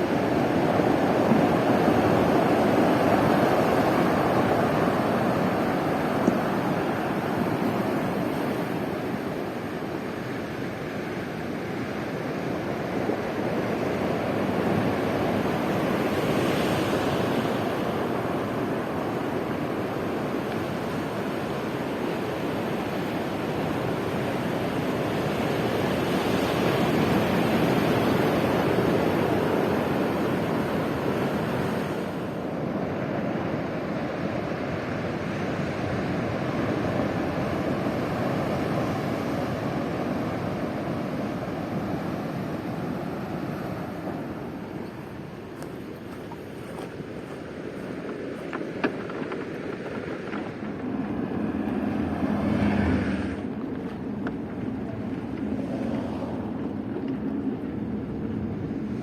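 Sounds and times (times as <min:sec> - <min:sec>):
surf washing ashore: 0:00.0 - 0:59.0.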